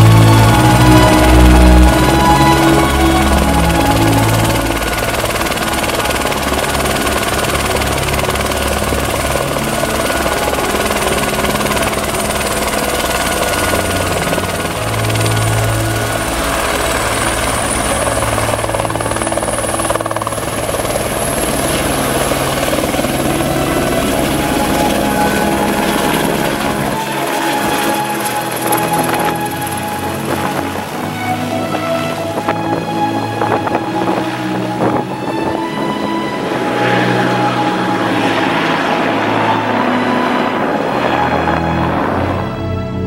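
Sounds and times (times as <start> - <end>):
helicopter turbine and rotor: 0.0 - 43.0
high turbine whine rising: 0.0 - 43.0.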